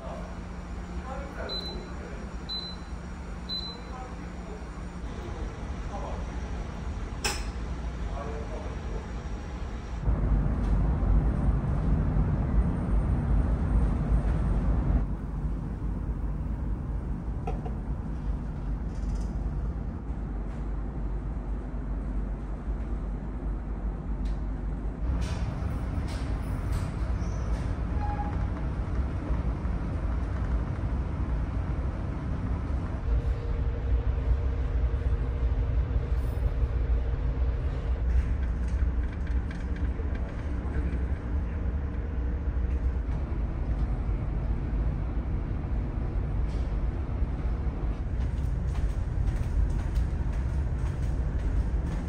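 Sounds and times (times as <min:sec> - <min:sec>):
ship engines rumbling: 0:00.0 - 0:22.4, 0:23.0 - 0:52.0.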